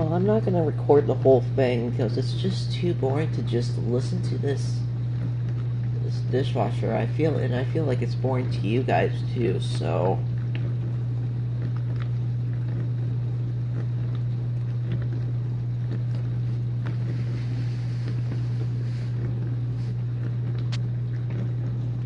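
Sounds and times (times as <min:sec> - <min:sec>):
dishwasher pump hum: 0:00.0 - 0:22.0.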